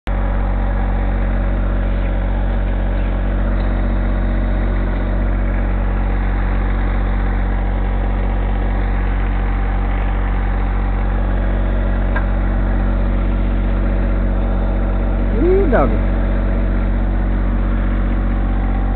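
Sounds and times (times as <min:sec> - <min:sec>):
tractor diesel engine running: 0:00.1 - 0:18.9.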